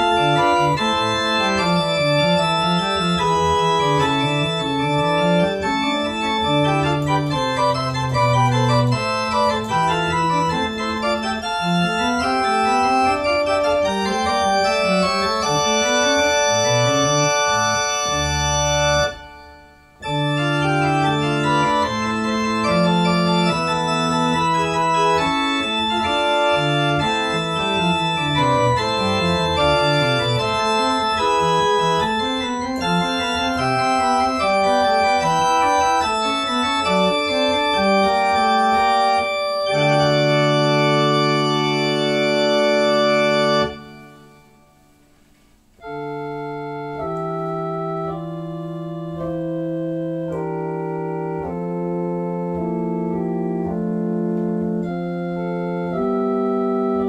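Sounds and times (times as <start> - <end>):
organ playing baroque variations: 0.0 - 57.0.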